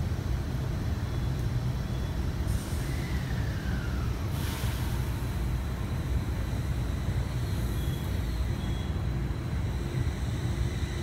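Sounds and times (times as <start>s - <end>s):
electric trains rumbling: 0.0s - 11.0s.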